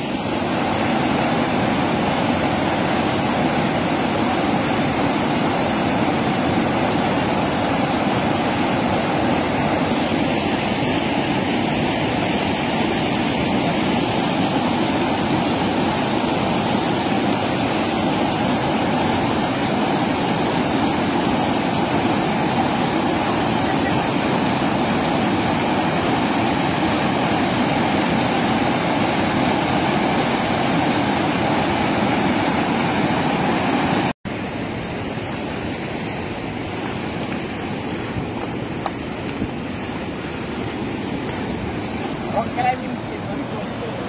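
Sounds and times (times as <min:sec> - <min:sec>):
river rushing over rapids: 0:00.0 - 0:44.0.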